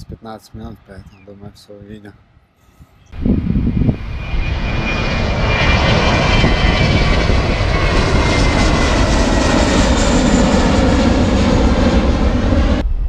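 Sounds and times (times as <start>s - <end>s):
jet engines roaring at takeoff: 0.0s - 2.4s, 3.1s - 13.0s.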